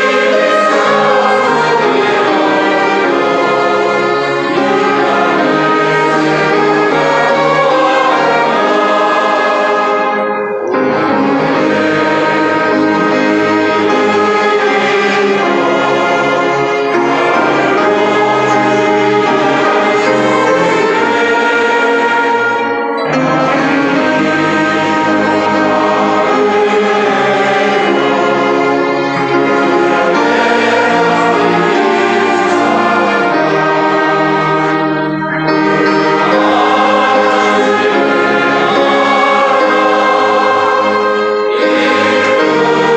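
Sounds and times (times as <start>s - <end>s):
brass instruments: 0.0s - 42.9s
orchestra of strings and winds: 0.0s - 42.9s.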